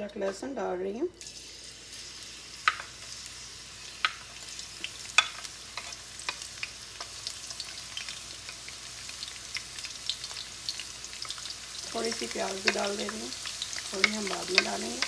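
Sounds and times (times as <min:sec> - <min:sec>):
paste sizzling in hot oil: 0:01.2 - 0:15.0.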